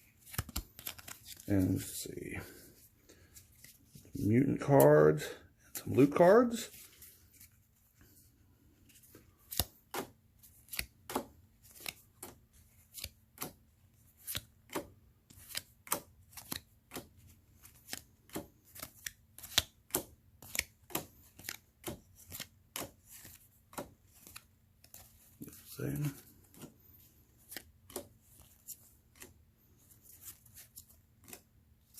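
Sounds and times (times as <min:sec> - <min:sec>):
cards being flipped: 0:00.0 - 0:04.8, 0:05.7 - 0:08.2, 0:08.8 - 0:31.9.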